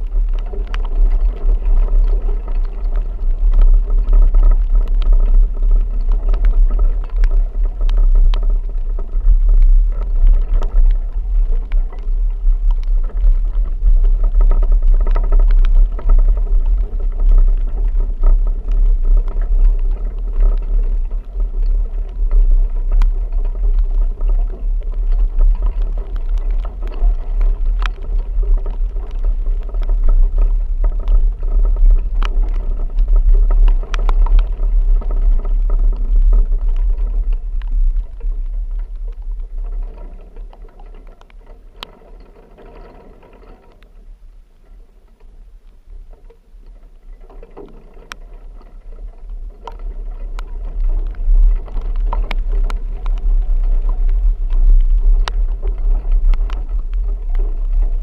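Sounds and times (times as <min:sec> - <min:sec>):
vehicle rumble: 0:00.0 - 0:42.2, 0:44.0 - 0:58.0
sharp ticks of rain: 0:00.0 - 0:58.0.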